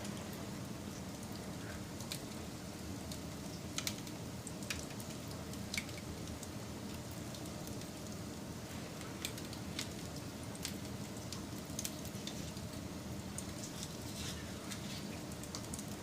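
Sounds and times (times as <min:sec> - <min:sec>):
wood fire burning with crackles: 0:00.0 - 0:16.0.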